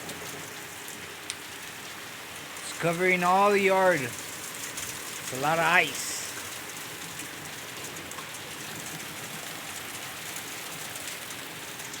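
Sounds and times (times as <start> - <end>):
hail striking the ground: 0.0 - 12.0.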